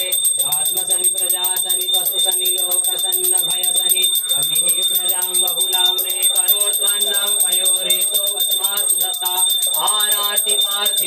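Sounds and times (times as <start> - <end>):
hand bell ringing rapidly: 0.0 - 11.0
person chanting: 0.0 - 11.0.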